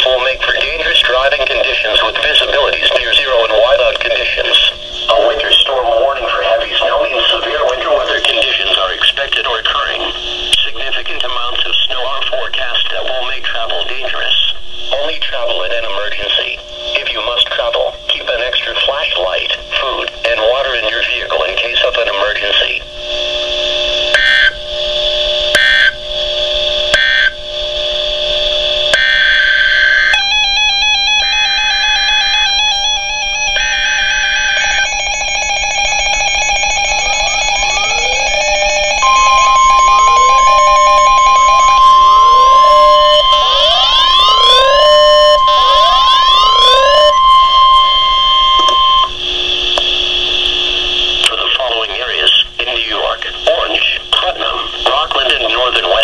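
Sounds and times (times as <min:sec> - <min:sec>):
digital data tone bursts: 0:00.0 - 0:24.6, 0:29.0 - 0:51.2
weather radio alarm siren: 0:00.0 - 0:51.3
steady hum: 0:00.0 - 0:56.0.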